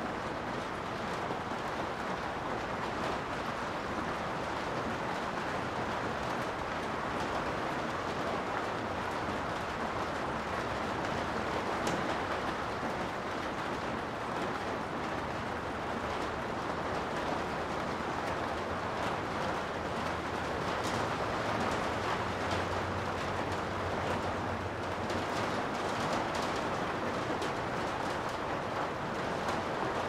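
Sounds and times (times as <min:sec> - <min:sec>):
faint ticks of raindrops: 0:00.0 - 0:30.0
steady rain hiss: 0:00.0 - 0:30.0.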